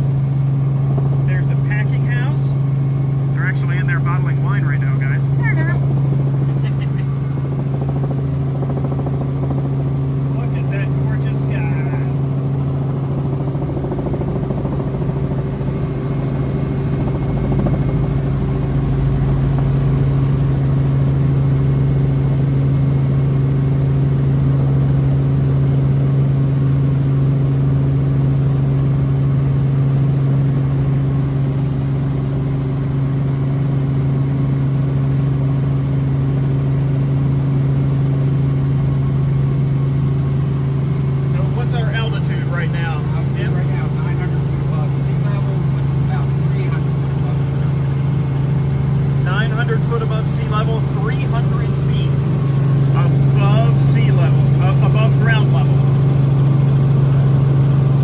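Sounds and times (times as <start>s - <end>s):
helicopter cabin drone: 0.0s - 58.0s.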